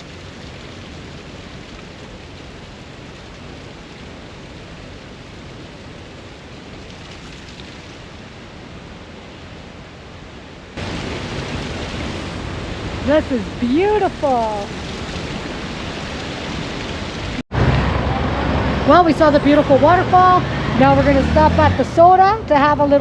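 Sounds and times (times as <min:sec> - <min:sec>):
falling water rushing: 0:00.0 - 0:23.0.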